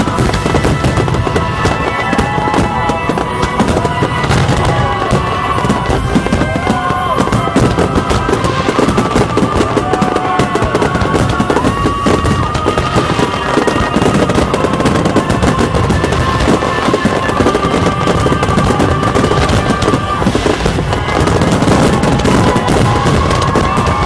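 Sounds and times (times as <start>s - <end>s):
firework bangs: 0.0s - 24.0s
firework crackles: 0.0s - 24.0s.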